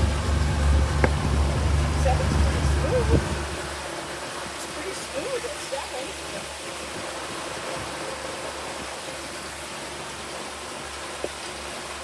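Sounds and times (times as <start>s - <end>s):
low boat engine hum: 0.0s - 12.0s
rush of water and wind: 0.0s - 12.0s.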